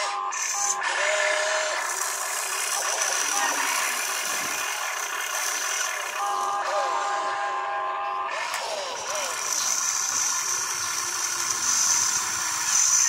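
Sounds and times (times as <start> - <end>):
electric motors and gearboxes whining: 0.0 - 13.0.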